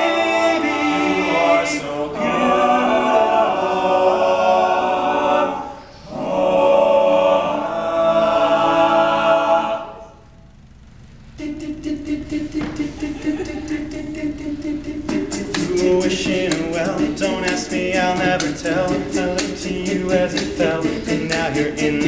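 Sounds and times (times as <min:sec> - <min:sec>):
male a cappella group singing: 0:00.0 - 0:10.2, 0:11.4 - 0:22.0.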